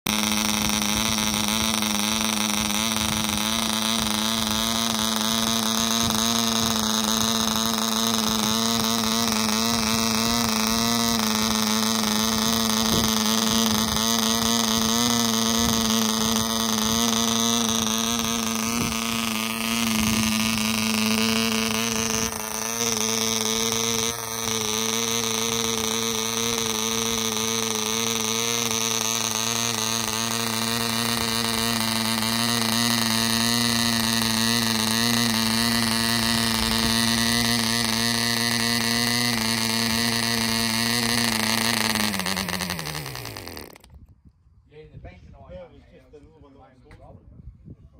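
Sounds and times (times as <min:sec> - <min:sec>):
model diesel engine running: 0:00.0 - 0:44.0.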